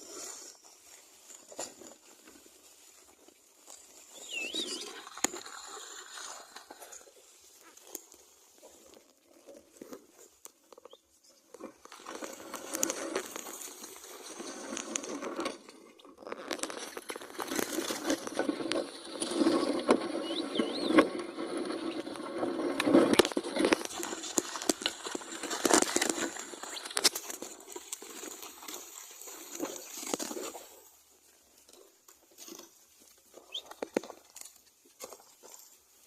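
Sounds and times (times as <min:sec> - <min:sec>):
earth crumbling and rustling: 0:00.0 - 0:36.0
plough scraping through soil: 0:00.0 - 0:36.0.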